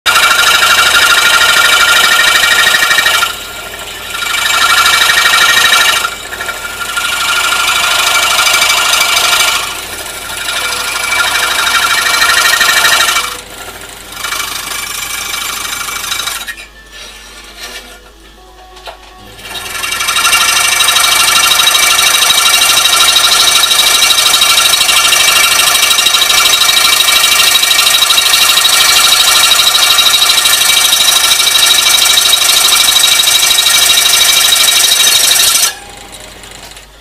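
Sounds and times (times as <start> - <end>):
scroll saw cutting metal sheet: 0.1 - 18.0, 19.5 - 35.8.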